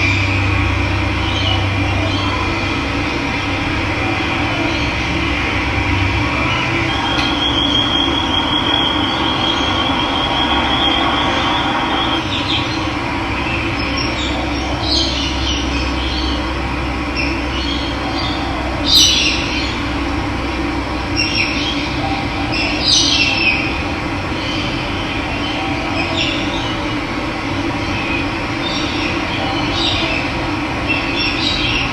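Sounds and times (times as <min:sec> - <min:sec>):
birds calling: 0:00.0 - 0:20.1, 0:21.0 - 0:27.0.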